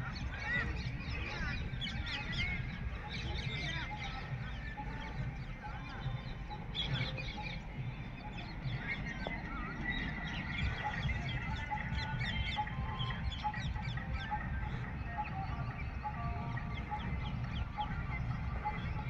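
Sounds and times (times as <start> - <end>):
birds calling and chirping: 0.0 - 19.0.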